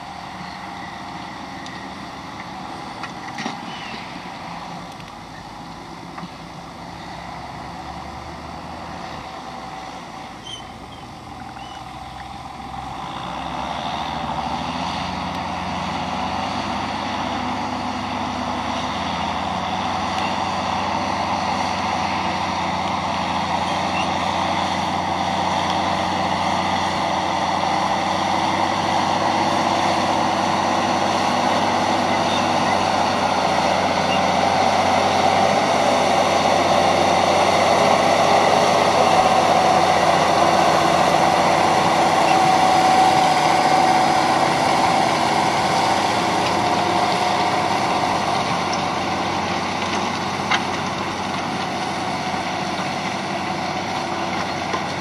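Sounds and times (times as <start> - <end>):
tractor diesel engine: 0.0 - 55.0.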